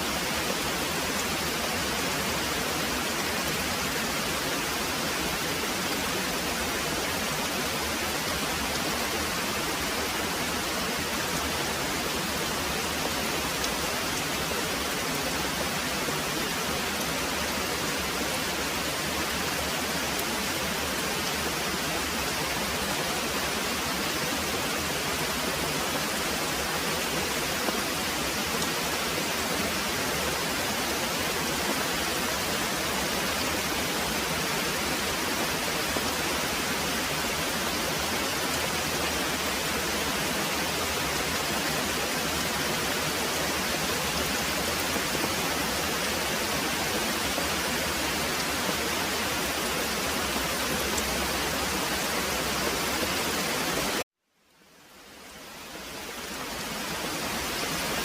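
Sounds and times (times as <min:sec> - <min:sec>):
heavy rain pouring: 0:00.0 - 0:54.1, 0:55.0 - 0:58.0.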